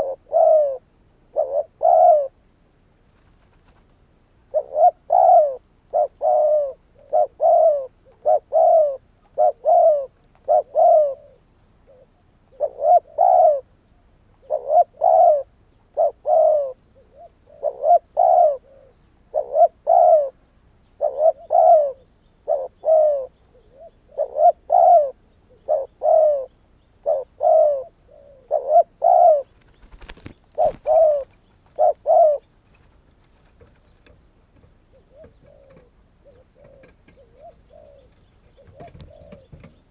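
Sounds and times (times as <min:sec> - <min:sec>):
dove cooing: 0:00.0 - 0:02.4, 0:03.4 - 0:13.7, 0:14.3 - 0:39.9.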